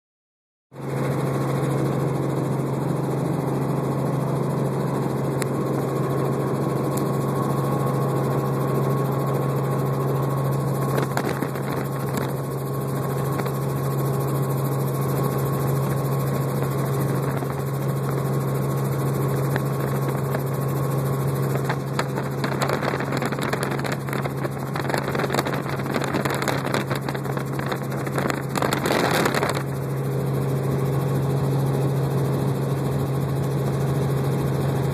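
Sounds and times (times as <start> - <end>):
helicopter engine and rotor drone: 0.7 - 34.9.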